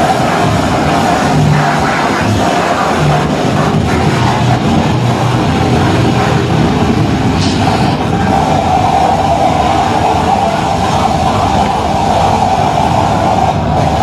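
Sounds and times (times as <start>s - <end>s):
harsh noise music through a pa: 0.0s - 14.0s
mid-pitched drone: 0.0s - 14.0s.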